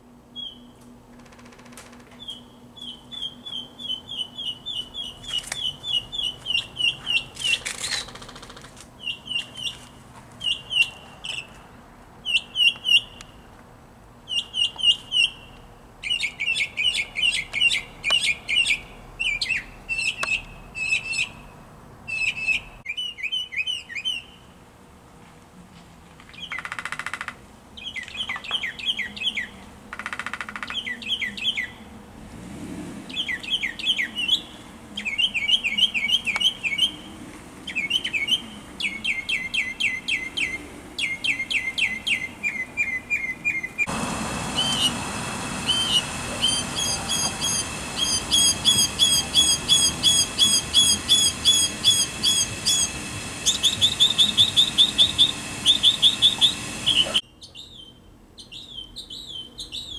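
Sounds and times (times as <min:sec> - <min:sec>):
mockingbird singing: 0:00.3 - 0:00.8, 0:02.1 - 0:11.5, 0:12.2 - 0:13.4, 0:14.3 - 0:24.5, 0:26.3 - 0:31.9, 0:33.1 - 0:43.9, 0:44.6 - 0:45.0, 0:45.6 - 0:59.9.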